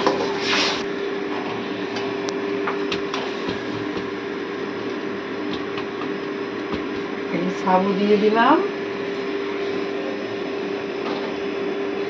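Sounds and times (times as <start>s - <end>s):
two-tone mechanical hum: 0.0s - 12.0s.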